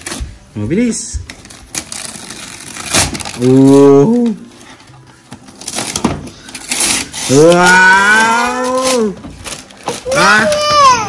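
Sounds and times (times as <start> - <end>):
wrapping paper tearing: 1.4 - 4.7, 5.4 - 11.0.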